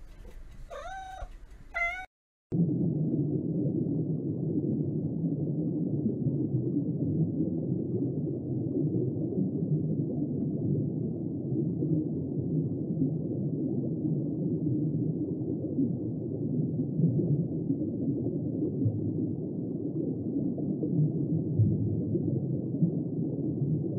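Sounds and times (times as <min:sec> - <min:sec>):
muffled underwater rumble: 0:00.0 - 0:23.9.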